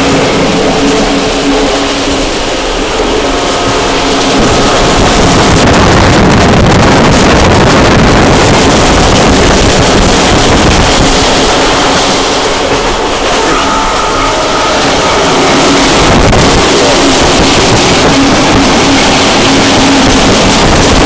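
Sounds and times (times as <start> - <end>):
train rolling at speed: 0.0 - 21.0
wind buffeting microphone: 0.0 - 21.0.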